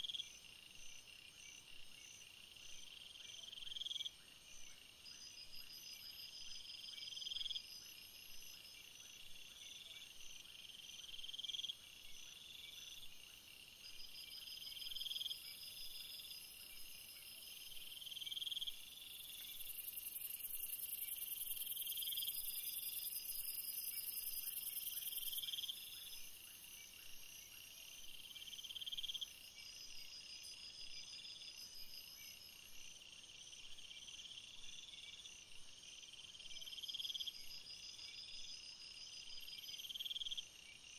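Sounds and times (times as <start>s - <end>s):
insects trilling and chirping: 0.0s - 40.9s.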